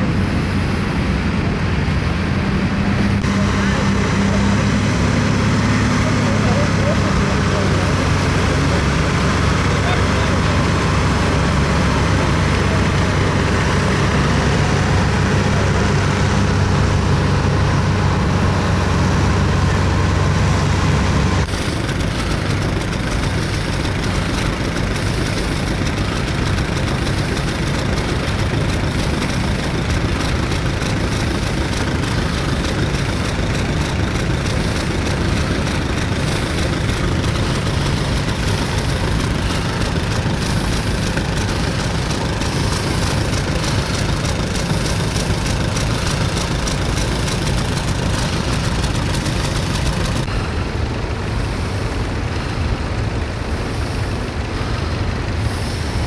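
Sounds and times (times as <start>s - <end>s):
distant tractor engines: 0.0s - 56.0s
heavy engine idling: 0.0s - 56.0s.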